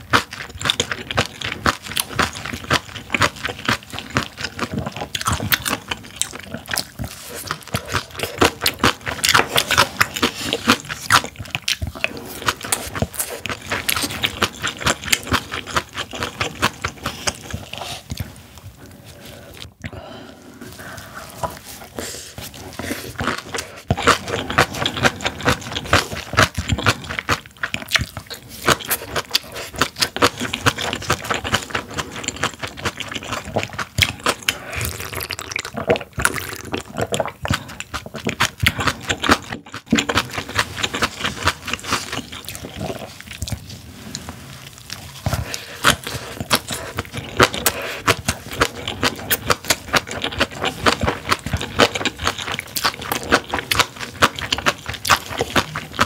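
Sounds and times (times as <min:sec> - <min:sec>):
wet chewing and crunching: 0:00.0 - 0:56.0
slurping soup: 0:02.0 - 0:56.0.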